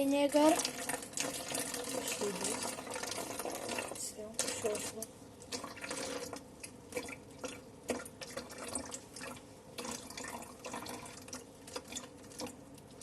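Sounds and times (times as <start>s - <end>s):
liquid pouring into plastic bottle: 0.4s - 13.0s.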